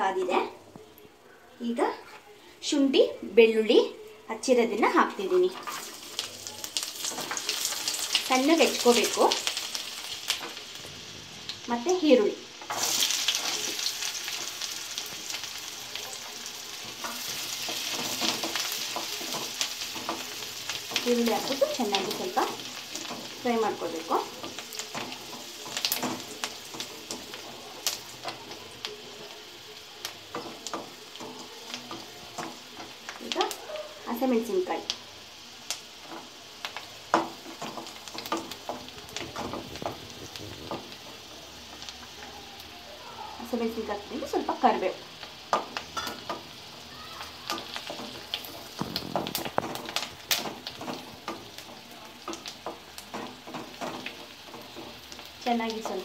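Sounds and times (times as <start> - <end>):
onion sizzling in hot oil: 0.0 - 56.0.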